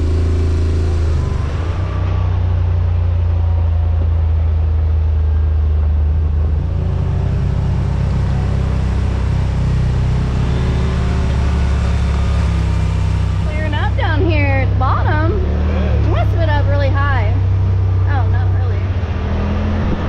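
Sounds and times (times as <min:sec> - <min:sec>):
utv engine droning: 0:00.0 - 0:20.0.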